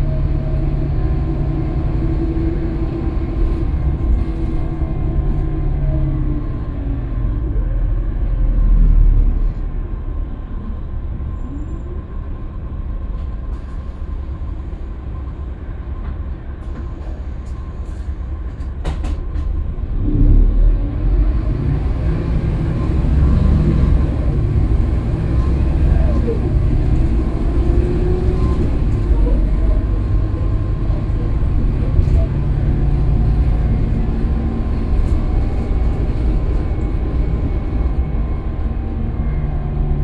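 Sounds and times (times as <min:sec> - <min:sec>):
bus engine and road rumble: 0:00.0 - 0:40.0.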